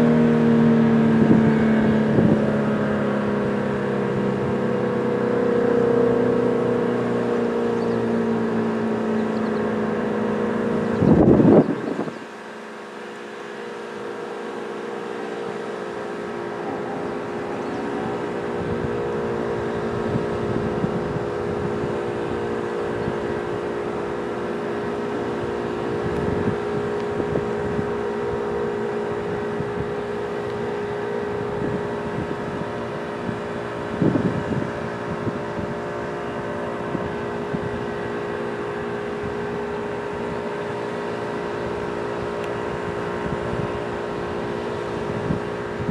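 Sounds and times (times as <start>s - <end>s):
wind rumbling on microphone: 0.0s - 12.3s, 14.2s - 45.9s
warning siren steady tones: 0.0s - 45.9s.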